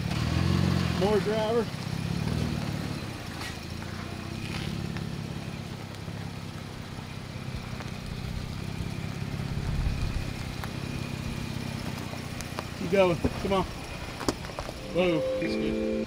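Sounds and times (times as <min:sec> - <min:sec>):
engine running at low revs: 0:00.0 - 0:15.9.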